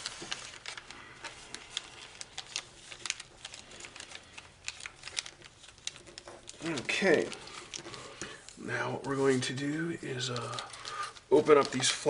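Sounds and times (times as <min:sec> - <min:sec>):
foil sheet crinkling: 0:00.0 - 0:12.0.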